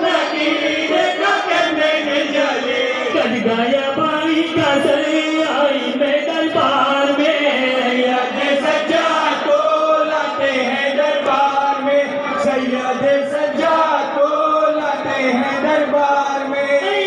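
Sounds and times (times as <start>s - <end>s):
men chanting over loudspeaker: 0.0s - 17.0s.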